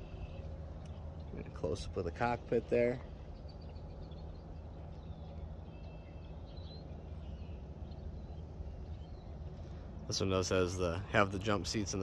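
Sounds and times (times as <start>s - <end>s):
faint bird chirps: 0.0s - 11.0s
steady low hum: 0.0s - 12.0s.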